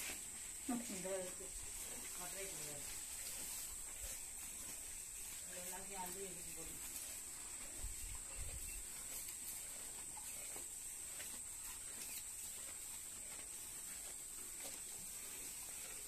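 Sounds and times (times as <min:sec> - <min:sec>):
cows chewing grass: 0:00.0 - 0:16.0.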